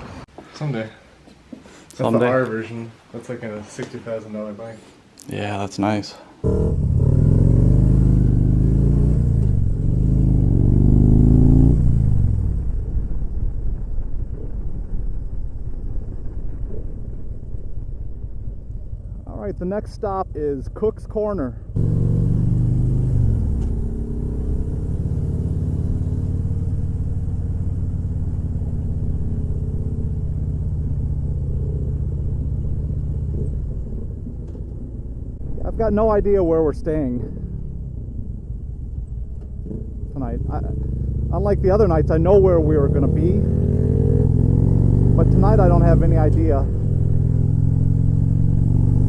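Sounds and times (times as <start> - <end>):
wind and road noise: 0.0 - 2.3, 5.8 - 49.0
motorcycle engine accelerating: 6.4 - 19.2, 20.3 - 36.3, 37.0 - 49.0.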